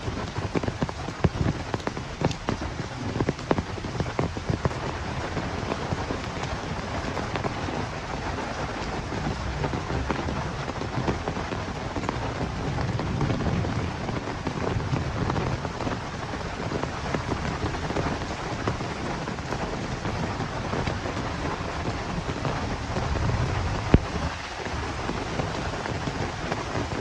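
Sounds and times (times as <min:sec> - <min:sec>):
heavy rain falling: 0:00.0 - 0:27.0
low rumble of wind: 0:00.0 - 0:27.0
raindrops ticking on surfaces: 0:00.0 - 0:27.0.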